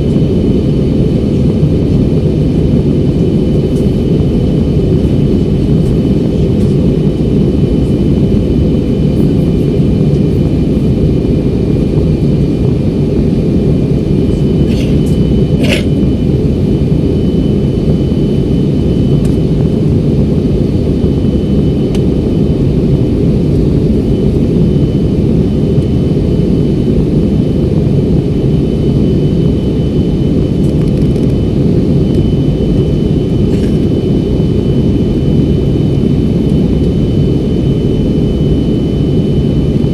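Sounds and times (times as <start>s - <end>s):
faint high whine: 0.0s - 39.9s
jet cabin roar: 0.0s - 39.9s.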